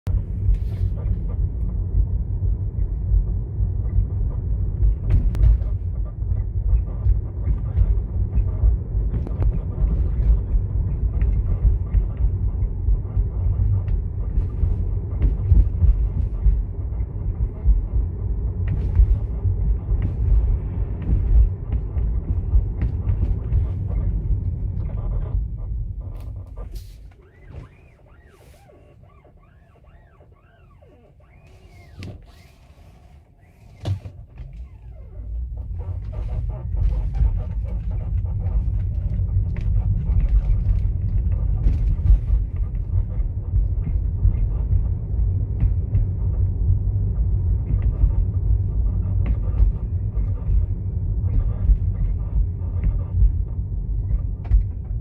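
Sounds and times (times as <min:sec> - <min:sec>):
car rumble in motion: 0:00.0 - 0:55.0
suspension knocks and clicks: 0:00.1 - 0:55.0.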